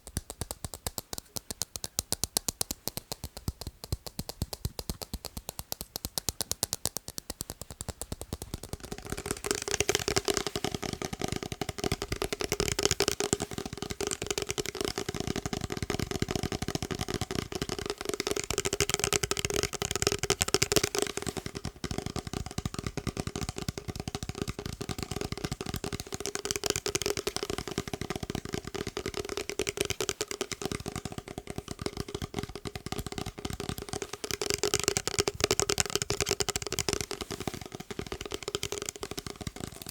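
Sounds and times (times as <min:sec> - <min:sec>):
fast tapping on hard object: 0:00.0 - 0:39.9.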